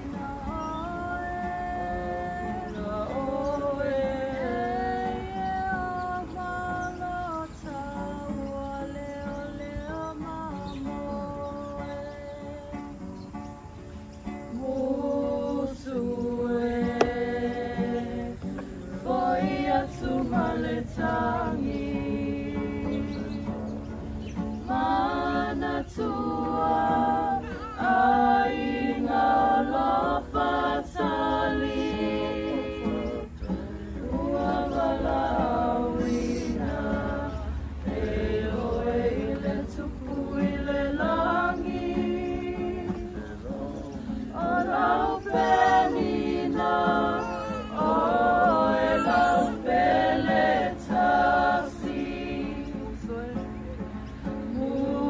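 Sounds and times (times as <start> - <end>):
group singing unaccompanied: 0.0 - 55.0.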